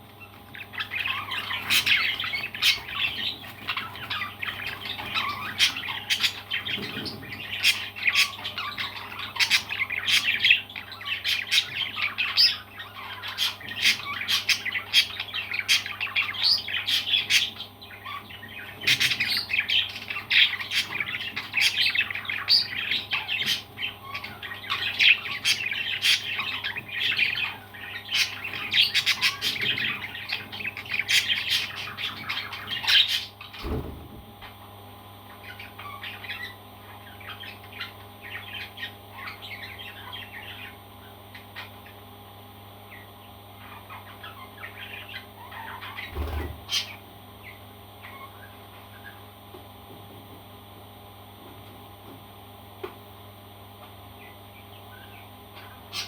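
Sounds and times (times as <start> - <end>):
parrots squawking and chirping: 0.1 - 34.6, 35.3 - 42.0, 42.9 - 49.3, 54.2 - 56.0.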